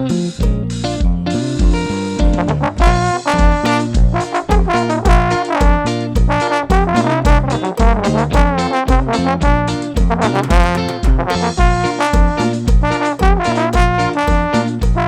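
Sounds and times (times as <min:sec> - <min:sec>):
kick drum beat: 0:00.4 - 0:15.0
trombone lead: 0:02.3 - 0:15.0.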